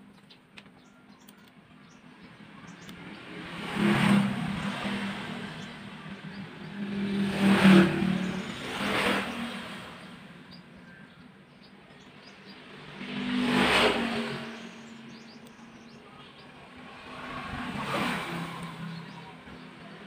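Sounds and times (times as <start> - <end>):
motor vehicles passing by: 0.0 - 20.0.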